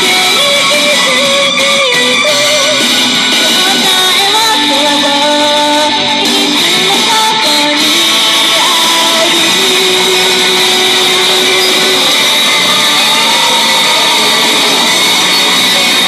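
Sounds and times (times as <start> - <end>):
loud distorted live band music: 0.0 - 16.0.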